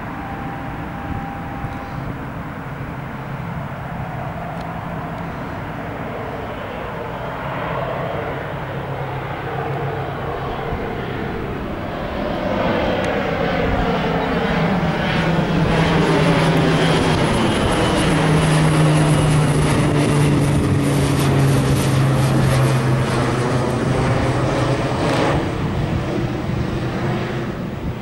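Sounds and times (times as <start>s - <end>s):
turboprop engine and propeller: 0.0s - 28.0s.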